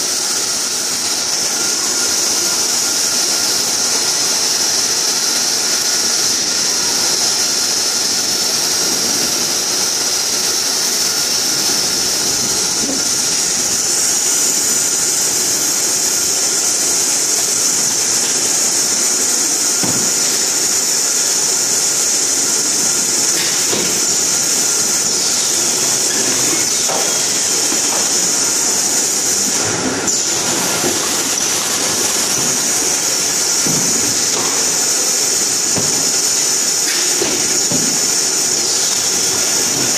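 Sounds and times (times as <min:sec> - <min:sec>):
bottling machinery din: 0:00.0 - 0:39.9
high hiss: 0:00.1 - 0:39.9.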